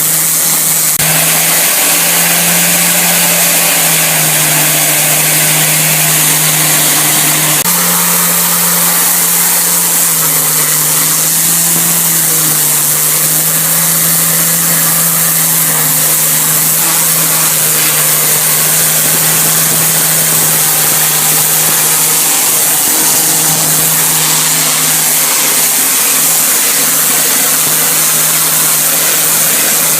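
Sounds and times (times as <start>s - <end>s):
cleaning machine engine hum: 0.0s - 29.9s.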